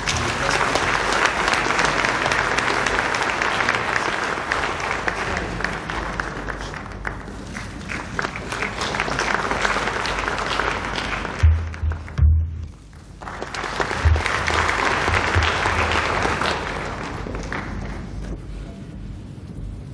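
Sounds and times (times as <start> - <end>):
audience clapping: 0.0 - 18.4.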